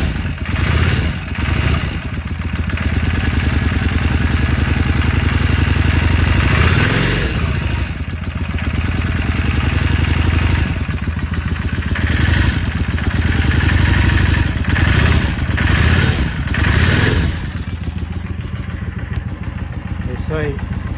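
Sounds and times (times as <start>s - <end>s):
motorcycle engine running and revving: 0.0s - 20.9s.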